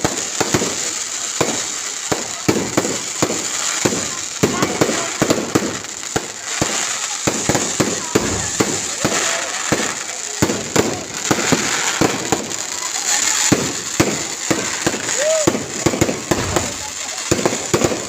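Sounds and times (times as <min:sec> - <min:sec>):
firecrackers banging: 0:00.0 - 0:18.0
fireworks crackling hiss: 0:00.0 - 0:18.0.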